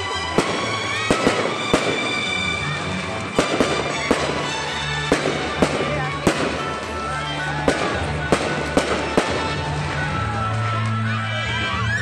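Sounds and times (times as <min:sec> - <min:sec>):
background music: 0:00.0 - 0:12.0
fireworks bangs: 0:00.1 - 0:10.6.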